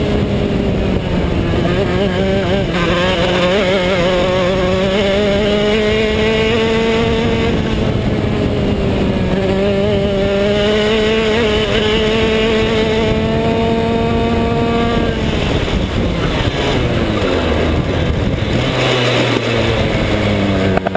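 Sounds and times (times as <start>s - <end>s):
kart engine at high revs: 0.0s - 20.9s.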